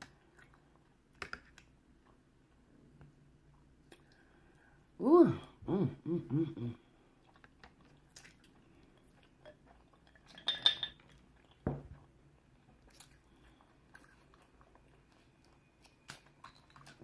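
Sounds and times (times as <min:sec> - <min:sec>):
faint eating sounds: 0:00.0 - 0:17.0.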